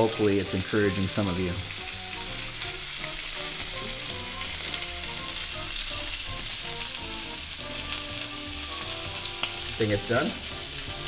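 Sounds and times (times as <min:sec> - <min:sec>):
steaks sizzling on griddle: 0:00.0 - 0:11.0.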